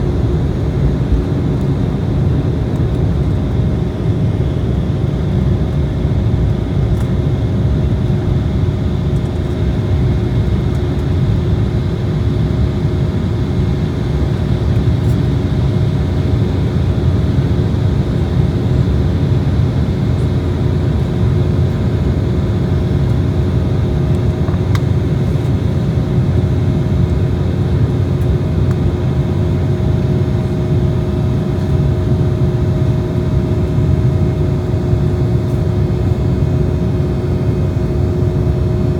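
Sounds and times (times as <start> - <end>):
low rumble of jet engines: 0.0 - 38.9.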